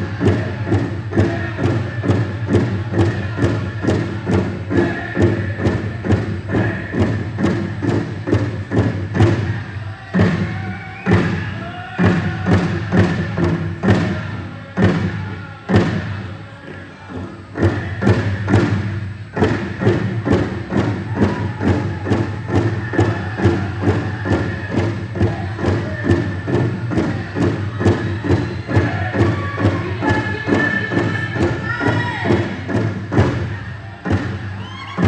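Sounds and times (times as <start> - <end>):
large drum beating: 0.0 - 16.3, 17.4 - 35.0
singers chanting: 0.0 - 35.0.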